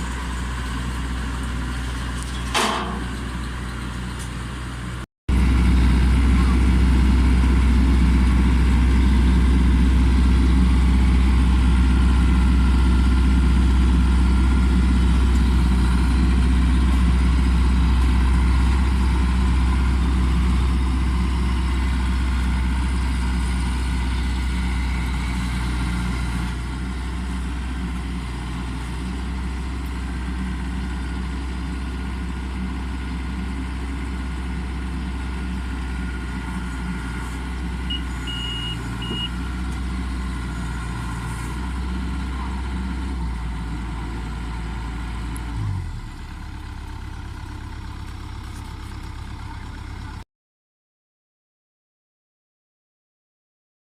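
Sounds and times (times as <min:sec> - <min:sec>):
heavy engine deep hum: 0:00.0 - 0:50.2.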